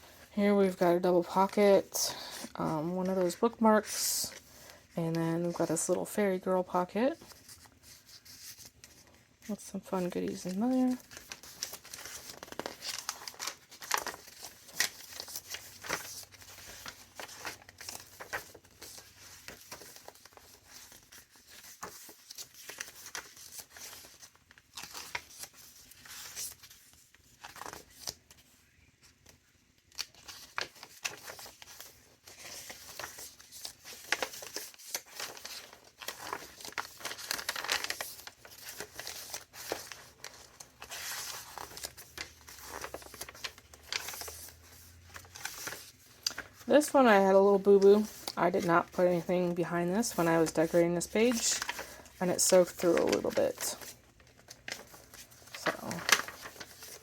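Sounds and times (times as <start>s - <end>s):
paper rustling and crinkling: 0.0s - 57.0s.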